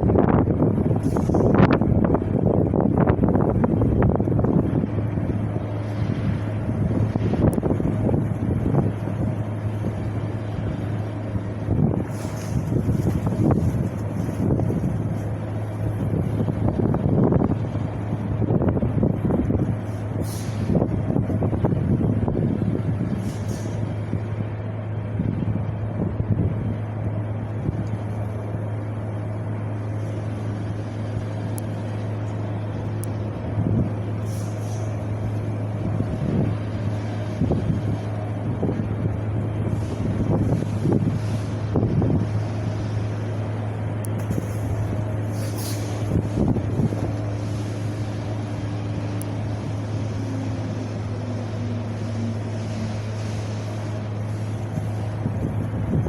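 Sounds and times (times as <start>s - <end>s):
wind blowing: 0.0s - 56.0s.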